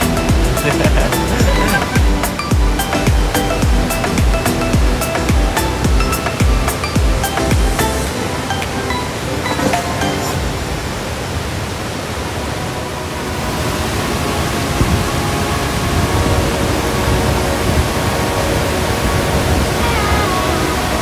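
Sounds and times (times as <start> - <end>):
waterfall roar: 0.0 - 21.0.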